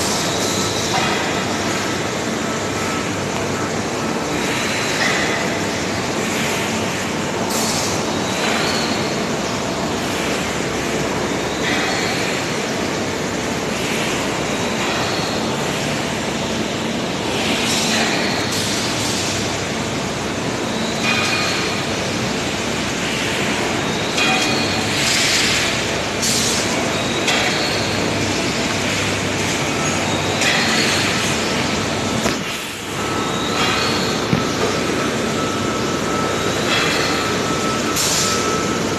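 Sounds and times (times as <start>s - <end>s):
industrial machinery din: 0.0s - 38.9s.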